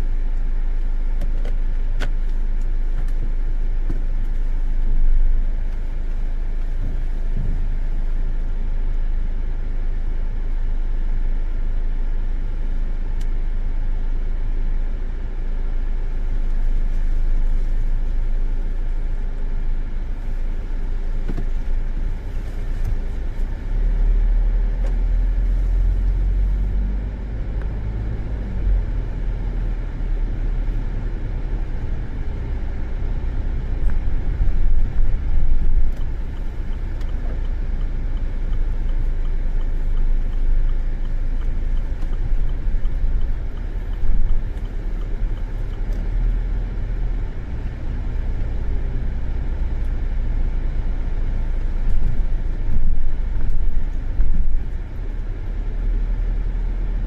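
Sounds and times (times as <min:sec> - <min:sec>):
car cabin rumble: 0:00.0 - 0:57.0.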